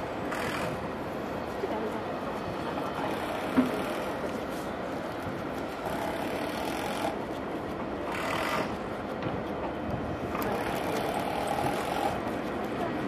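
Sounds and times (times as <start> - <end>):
distant jet engines: 0.0 - 13.0.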